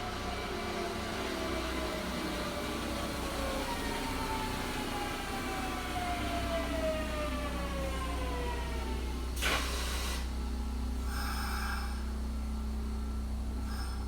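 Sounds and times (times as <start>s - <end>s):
low train hum: 0.0s - 14.0s
train motors whining: 0.8s - 14.0s.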